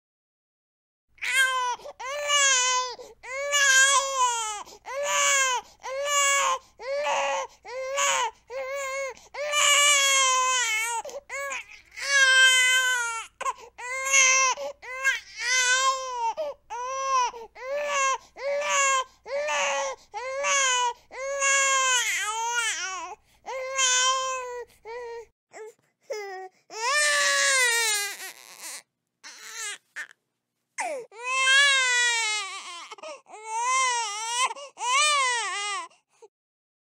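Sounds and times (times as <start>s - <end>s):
baby crying: 1.2s - 30.2s, 30.8s - 35.9s.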